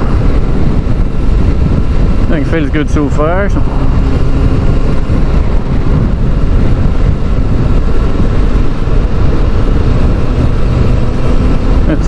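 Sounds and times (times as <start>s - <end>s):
motorcycle engine running: 0.0s - 12.0s
wind rushing on microphone: 0.0s - 12.0s.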